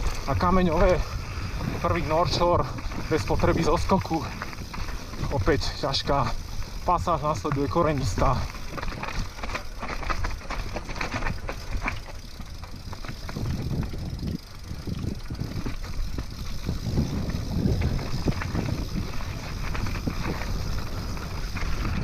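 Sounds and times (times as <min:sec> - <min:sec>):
bike knocking and rattling: 0:00.0 - 0:22.0
bike tyres rumbling on trail: 0:00.0 - 0:22.0.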